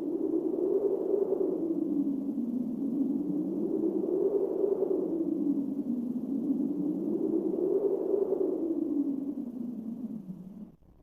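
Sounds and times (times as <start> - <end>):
low hollow wind whoosh: 0.0 - 11.0.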